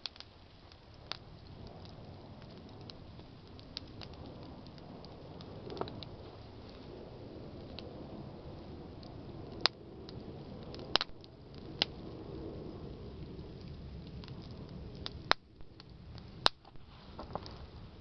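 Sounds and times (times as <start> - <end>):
branches crackling: 0.0 - 18.0
campfire flame rushing: 0.0 - 18.0.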